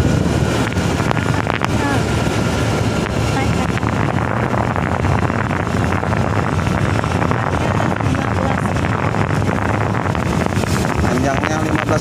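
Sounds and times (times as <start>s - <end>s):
road vehicle running: 0.0s - 12.0s
wind on microphone: 0.0s - 12.0s.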